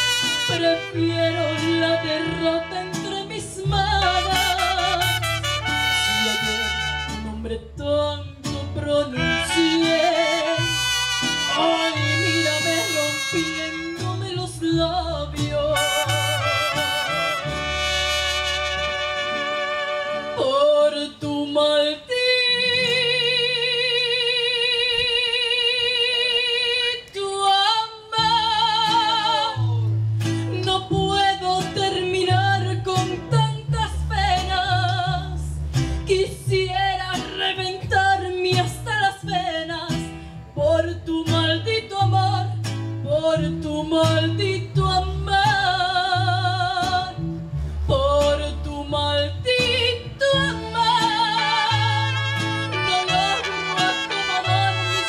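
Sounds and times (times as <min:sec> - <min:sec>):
mariachi band playing: 0:00.0 - 0:23.9, 0:28.2 - 0:55.0
woman singing: 0:00.0 - 0:29.9, 0:30.5 - 0:47.2, 0:47.9 - 0:55.0.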